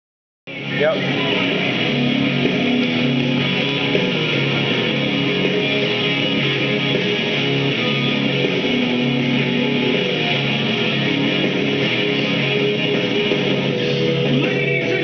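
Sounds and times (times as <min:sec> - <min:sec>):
guitar background music: 0:00.5 - 0:15.0.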